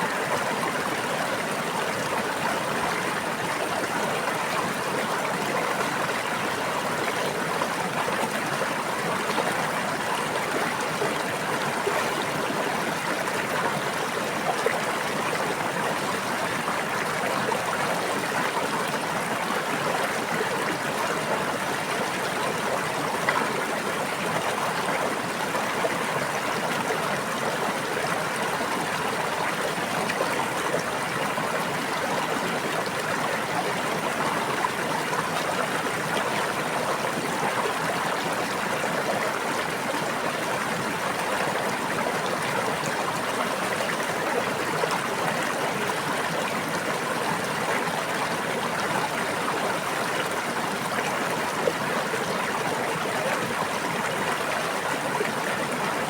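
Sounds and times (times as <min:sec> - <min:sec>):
brook babbling: 0:00.0 - 0:56.0.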